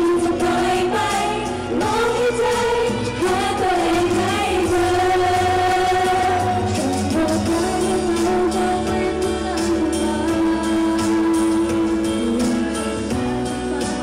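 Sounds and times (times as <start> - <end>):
backing track with steady beat: 0.0 - 14.0
women singing pop song: 0.0 - 14.0.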